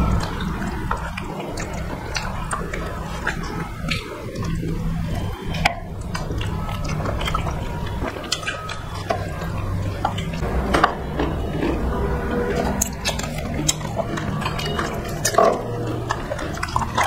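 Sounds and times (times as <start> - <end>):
steady low hum: 0.0 - 17.0
wet chewing and lip-smacking: 0.0 - 17.0.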